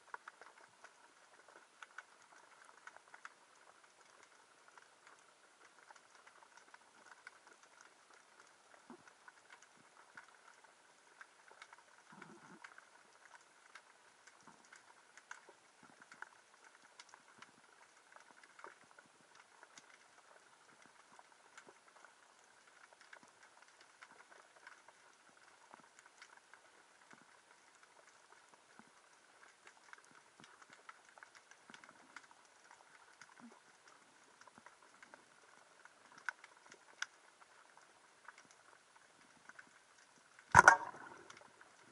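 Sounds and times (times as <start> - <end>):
underwater reef crackle: 0.0 - 41.9.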